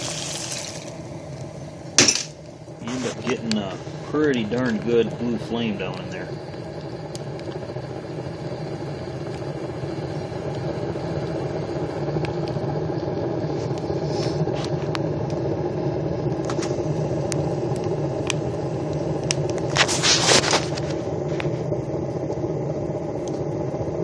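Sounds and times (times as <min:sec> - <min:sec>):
burning fuel crackling: 0:00.0 - 0:24.0
heater draft roar: 0:00.0 - 0:24.0.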